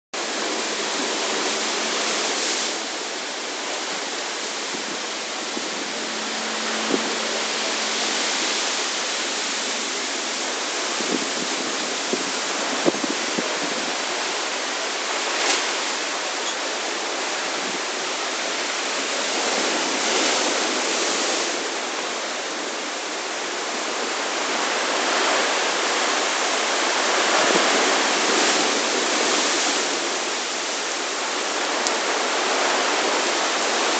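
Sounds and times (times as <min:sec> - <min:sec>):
gusting wind: 0:00.2 - 0:33.9
heavy rain pouring: 0:00.2 - 0:33.9.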